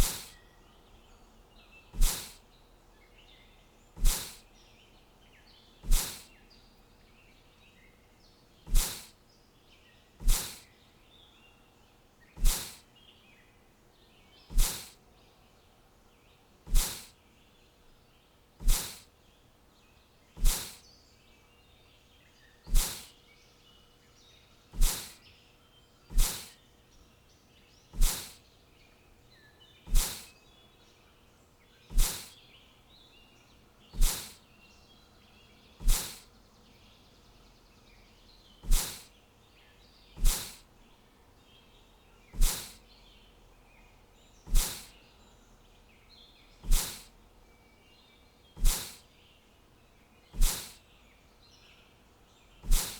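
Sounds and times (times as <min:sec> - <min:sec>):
faint bird chirping: 0:00.0 - 0:52.9.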